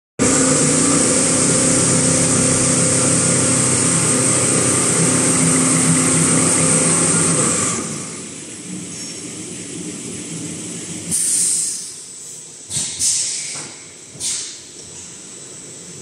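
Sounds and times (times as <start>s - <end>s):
machine humming with hiss: 0.2s - 16.0s.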